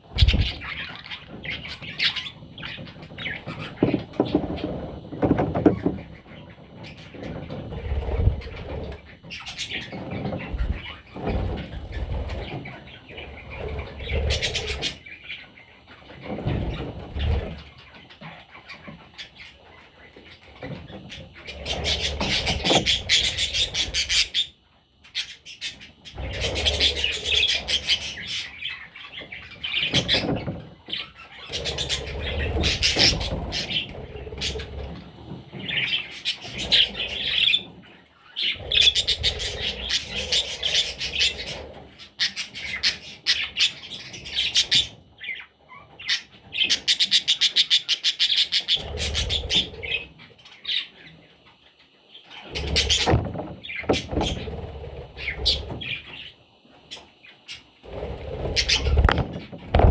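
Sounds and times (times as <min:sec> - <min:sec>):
budgerigar chicks chirping: 0:00.0 - 0:59.9.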